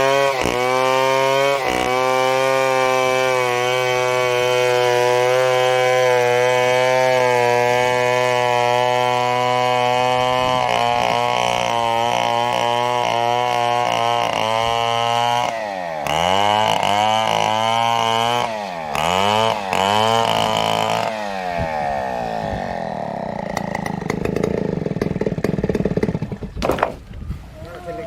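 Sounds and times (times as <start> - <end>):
chainsaw cutting wood: 0.0 - 27.2.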